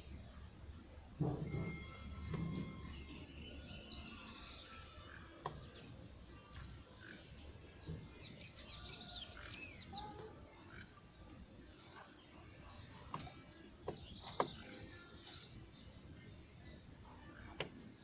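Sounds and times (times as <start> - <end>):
small birds chirping: 2.9 - 18.0.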